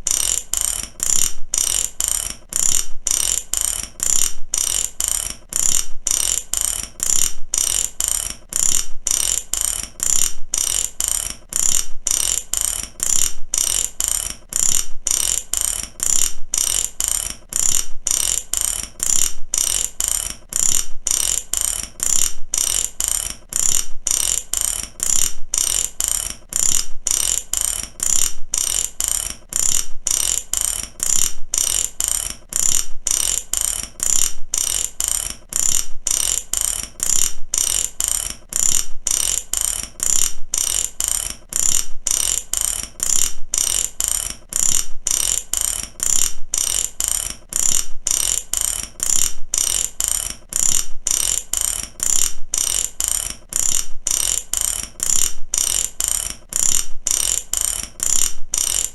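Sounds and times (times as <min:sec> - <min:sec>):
ratchet wrench clicking: 0:00.0 - 0:58.9.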